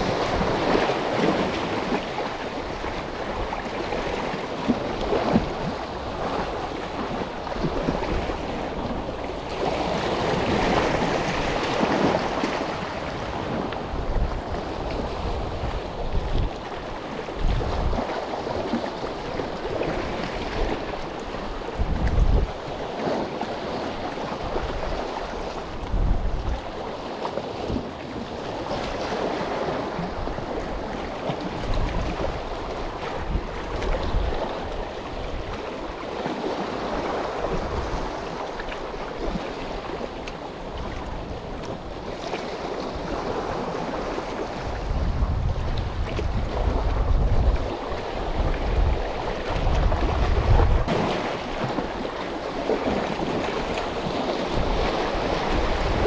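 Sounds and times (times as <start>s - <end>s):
sea waves splashing on concrete: 0.0s - 56.0s
wind buffeting microphone: 0.0s - 56.0s.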